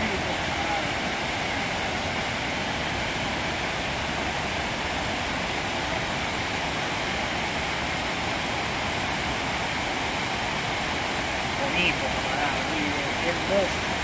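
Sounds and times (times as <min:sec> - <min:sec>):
water rushing over dam spillway: 0:00.0 - 0:14.0.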